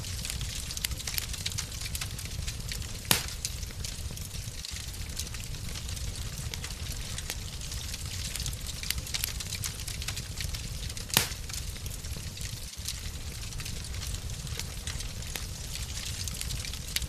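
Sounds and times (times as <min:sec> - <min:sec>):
wood fire rumbling and crackling: 0:00.0 - 0:17.0.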